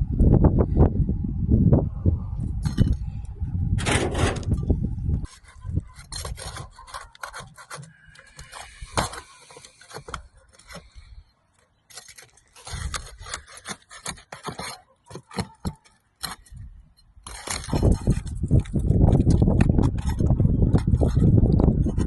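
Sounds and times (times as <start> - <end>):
irregular scraping and rubbing: 3.8 - 22.0.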